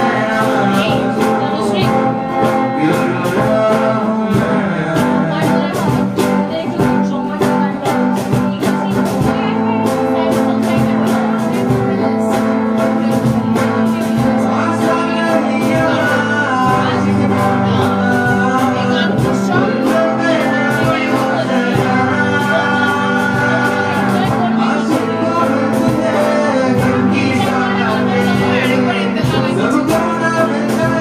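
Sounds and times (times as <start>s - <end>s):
cajon beat: 0.0s - 31.0s
man singing: 0.0s - 31.0s
strummed guitars: 0.0s - 31.0s.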